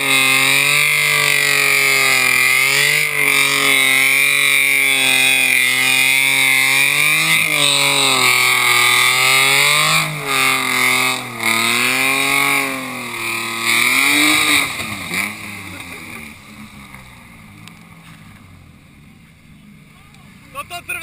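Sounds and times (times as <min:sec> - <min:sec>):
car engine revving hard: 0:00.0 - 0:18.2.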